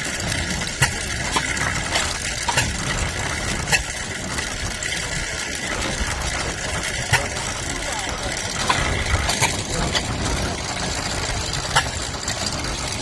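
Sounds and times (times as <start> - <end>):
hay baler engine running: 0.0 - 13.0.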